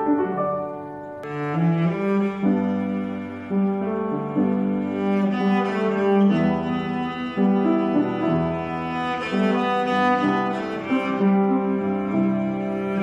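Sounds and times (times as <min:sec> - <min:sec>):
cello bowing slow melody: 0:00.0 - 0:13.0
piano accompaniment: 0:00.0 - 0:13.0.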